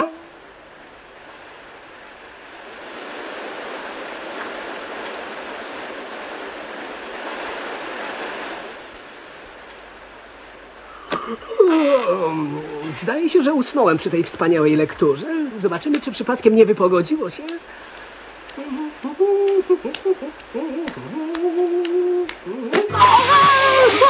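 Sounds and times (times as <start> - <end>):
cartoon heavy rain hiss: 0.0 - 24.0.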